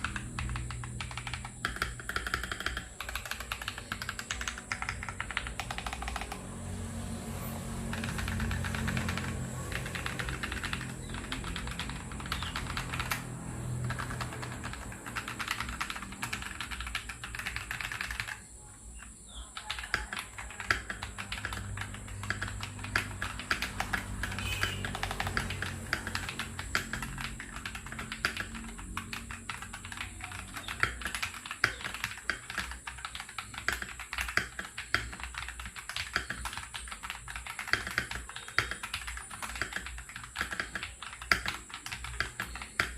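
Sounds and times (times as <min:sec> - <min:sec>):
mechanical keyboard typing: 0:00.0 - 0:42.9.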